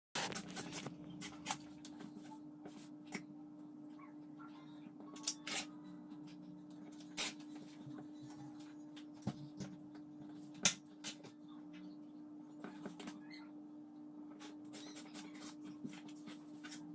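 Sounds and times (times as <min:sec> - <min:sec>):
steady low hum: 0:00.2 - 0:16.9.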